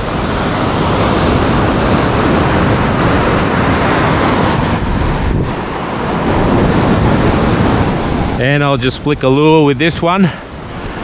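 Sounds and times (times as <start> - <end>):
waves breaking on shore: 0.0 - 11.0
wind buffeting microphone: 0.0 - 11.0.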